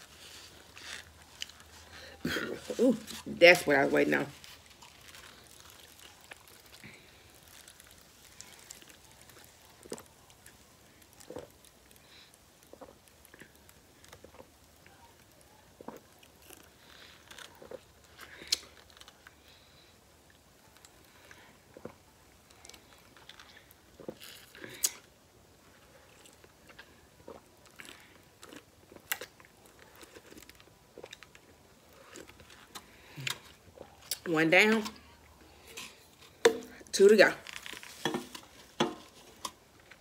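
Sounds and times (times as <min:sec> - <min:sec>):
food crunching while chewing: 0:00.0 - 0:40.0.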